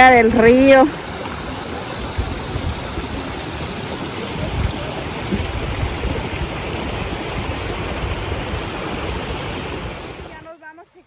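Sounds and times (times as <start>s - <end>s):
river water rushing over rocks: 0.1s - 10.5s.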